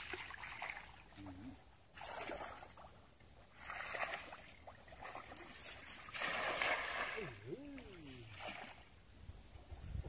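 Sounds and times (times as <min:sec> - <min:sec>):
water splashing in a pond: 0:00.0 - 0:10.0.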